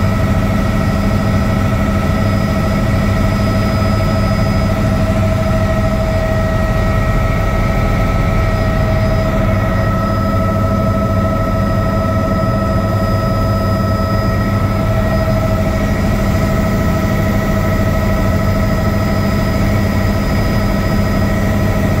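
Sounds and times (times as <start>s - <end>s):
helicopter cabin rumble: 0.0s - 22.0s
high whine: 0.0s - 22.0s.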